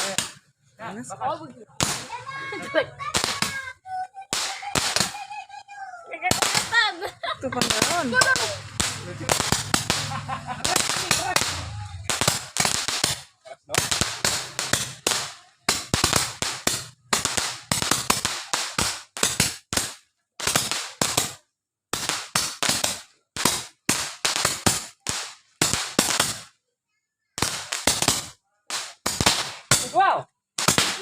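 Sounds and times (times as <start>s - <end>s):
firecrackers banging: 0.0s - 0.6s, 1.3s - 26.6s, 27.4s - 31.0s.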